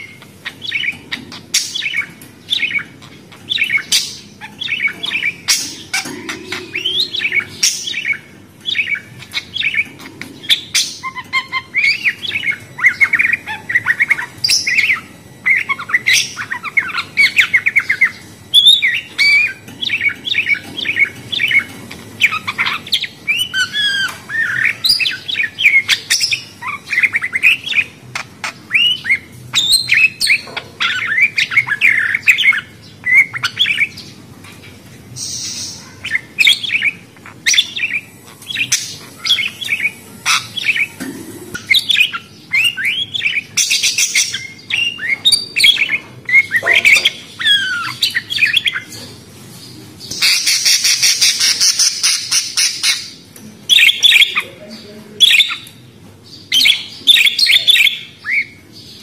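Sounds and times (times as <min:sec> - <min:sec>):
parrots chattering and squawking: 0:00.0 - 0:59.0.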